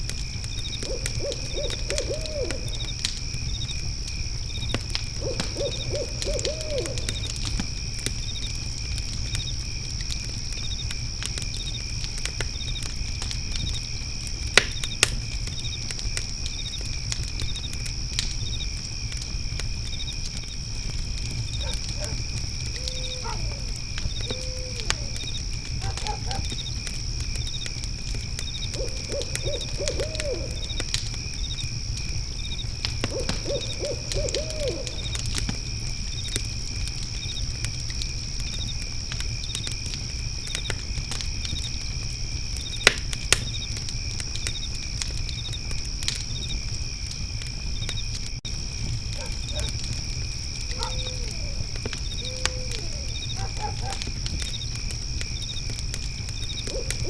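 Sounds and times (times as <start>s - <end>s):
crickets chirping: 0.0s - 57.0s
fire crackling and popping: 0.0s - 57.0s.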